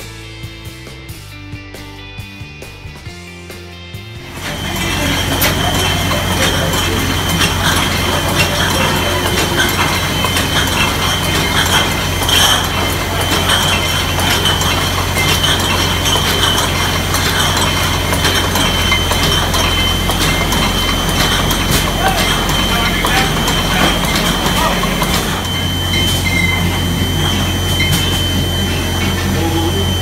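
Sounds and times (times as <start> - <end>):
machine hum: 4.1 - 30.0
high-pitched whine: 4.2 - 30.0
glass bottles clinking: 4.3 - 30.0.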